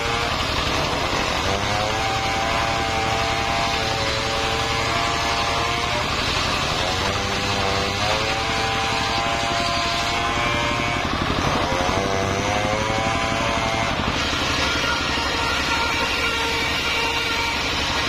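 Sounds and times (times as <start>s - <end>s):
circular saw blade whine: 0.0s - 18.0s
diesel engine running: 0.0s - 18.0s.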